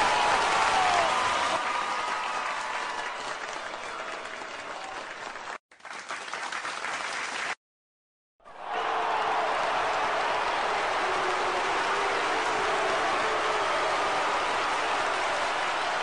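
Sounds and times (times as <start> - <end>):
crowd applause: 0.0 - 7.6, 8.5 - 16.0.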